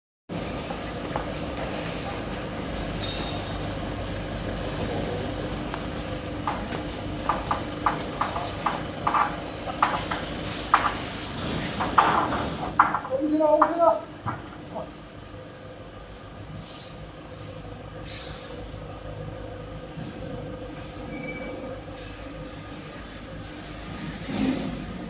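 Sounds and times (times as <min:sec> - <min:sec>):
faint constant hum: 0:00.3 - 0:25.0.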